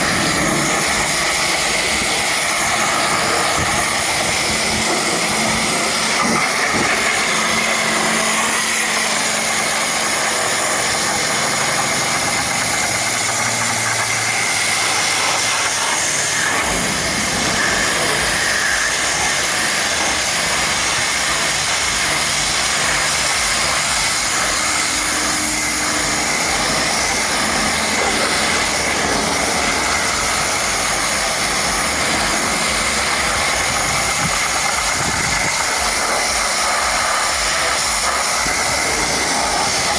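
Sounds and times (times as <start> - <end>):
low hum: 0.0 - 39.9
pressure washer spraying water: 0.0 - 39.9.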